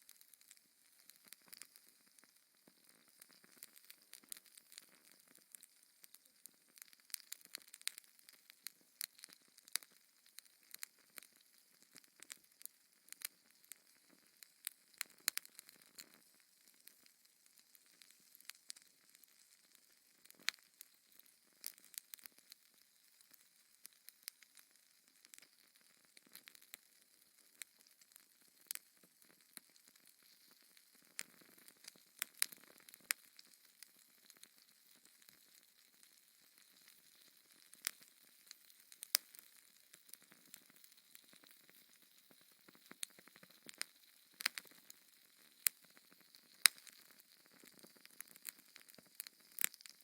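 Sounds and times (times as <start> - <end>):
fireplace fire crackling: 0.0 - 50.0.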